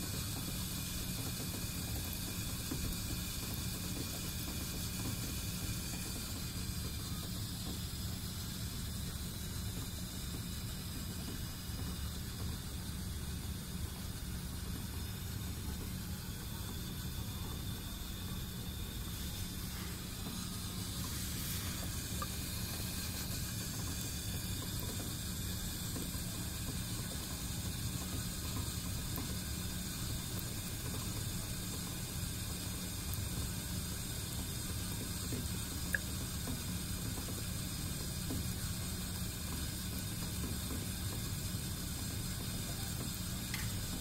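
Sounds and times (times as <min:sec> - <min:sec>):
coffee brewer hum and hiss: 0:00.0 - 0:44.0
coffee trickling: 0:00.0 - 0:44.0.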